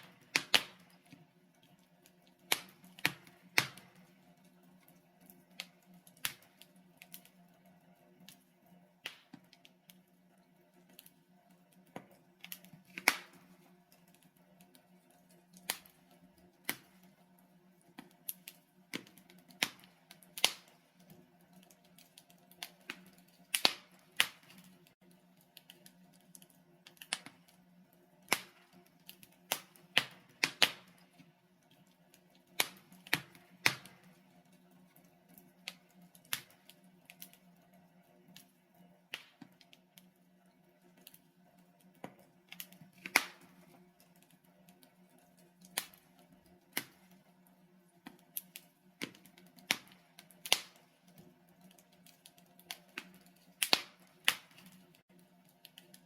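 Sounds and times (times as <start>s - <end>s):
wood fire popping and snapping: 0.0s - 56.0s.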